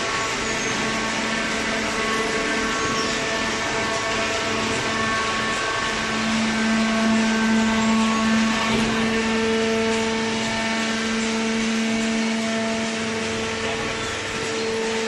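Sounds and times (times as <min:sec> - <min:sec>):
baler motor hum and whine: 0:00.0 - 0:15.0.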